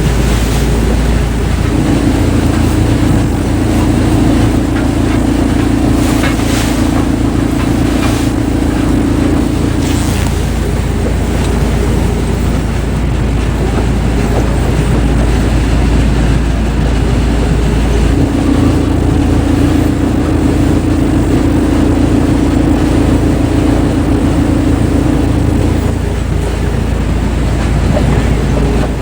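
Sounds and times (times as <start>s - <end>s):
heavy machinery running: 0.0s - 29.0s
steady hum: 0.0s - 29.0s.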